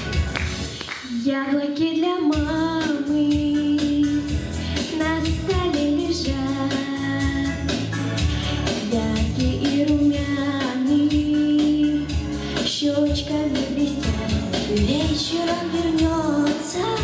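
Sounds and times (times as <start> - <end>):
musical accompaniment with beat: 0.0 - 17.0
girl singing into a microphone: 1.0 - 7.6, 8.8 - 17.0.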